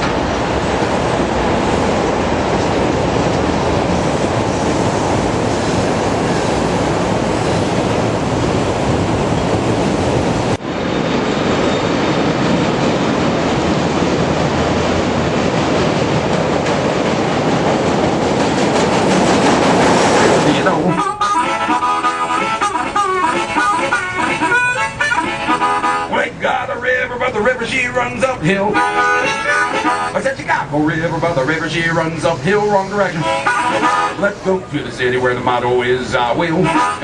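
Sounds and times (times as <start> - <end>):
train rumbling on rails: 0.0 - 37.0.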